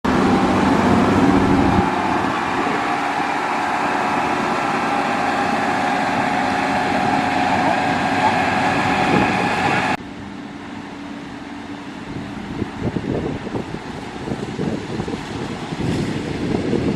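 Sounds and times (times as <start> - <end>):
heavy construction machinery running: 0.0 - 16.9
mechanical whine: 0.1 - 15.1.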